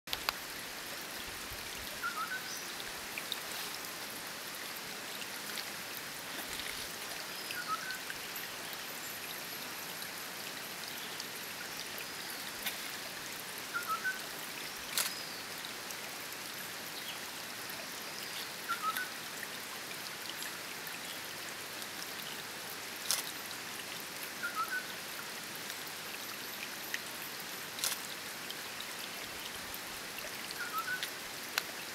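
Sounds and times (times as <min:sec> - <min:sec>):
water trickling over stones: 0:00.1 - 0:31.9.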